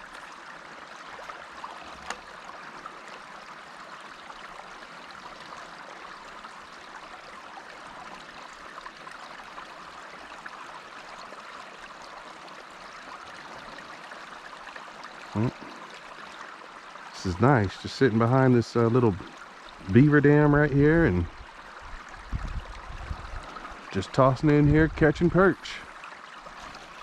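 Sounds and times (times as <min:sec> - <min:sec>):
creek water rushing and trickling: 0:00.0 - 0:27.0.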